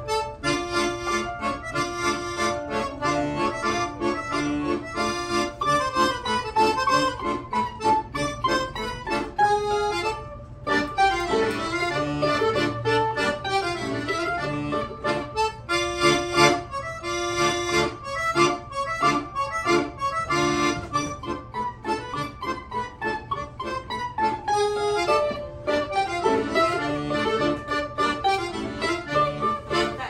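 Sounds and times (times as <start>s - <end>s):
accordion: 0.0s - 30.0s
mandolin: 0.0s - 30.0s.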